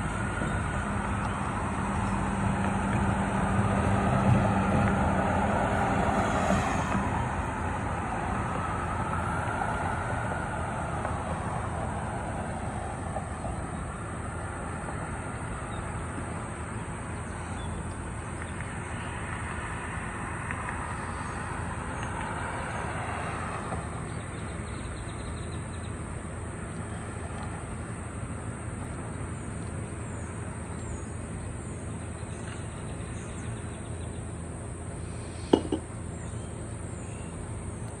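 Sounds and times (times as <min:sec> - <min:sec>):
low traffic rumble: 0:00.0 - 0:38.0
vehicles passing with hiss: 0:00.0 - 0:38.0.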